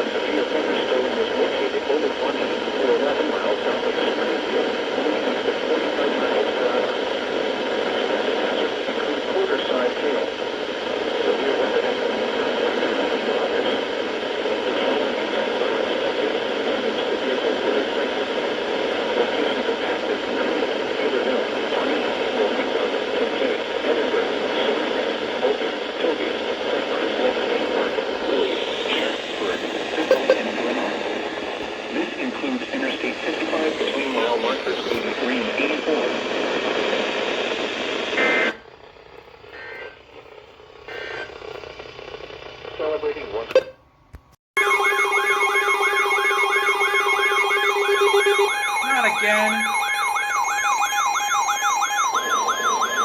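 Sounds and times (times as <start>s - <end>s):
radio static hiss: 0.0s - 43.8s, 48.0s - 49.7s.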